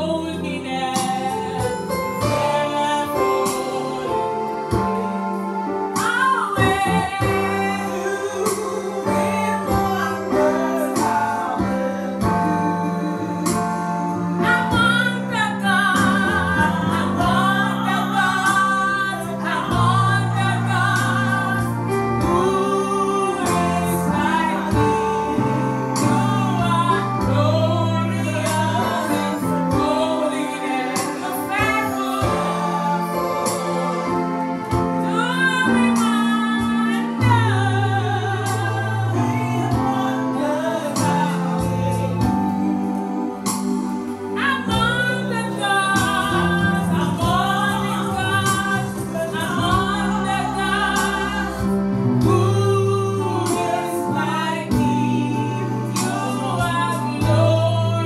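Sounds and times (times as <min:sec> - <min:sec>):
electronic keyboard chords: 0:00.0 - 0:58.0
women singing gospel song: 0:00.0 - 0:58.0.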